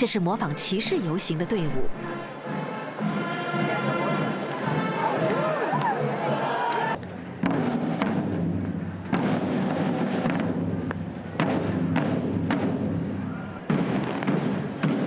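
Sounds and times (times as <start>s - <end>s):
marching drums beating: 1.9s - 15.0s.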